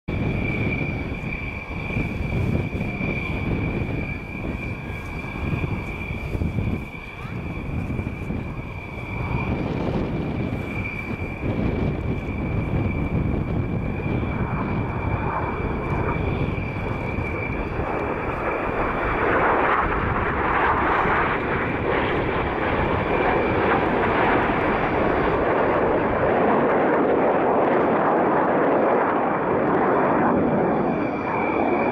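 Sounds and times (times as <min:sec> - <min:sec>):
jets roaring overhead: 0:00.1 - 0:31.9.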